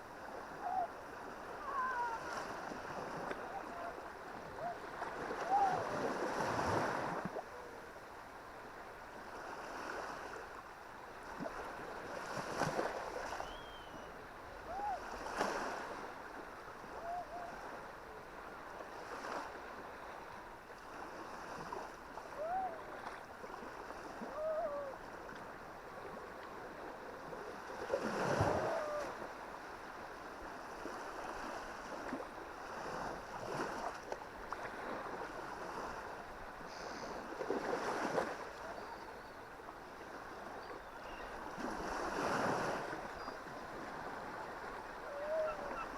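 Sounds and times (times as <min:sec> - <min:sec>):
surf waves breaking on beach: 0:00.0 - 0:45.9.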